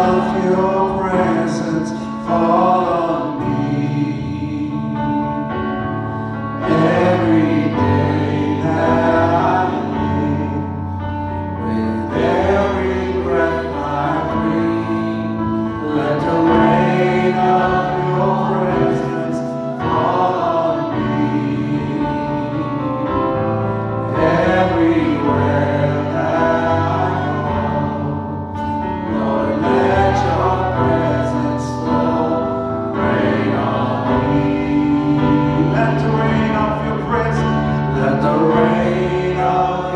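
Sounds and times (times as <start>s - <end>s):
instrumental accompaniment low notes: 0.0s - 39.9s
voices singing gospel song: 0.0s - 39.9s.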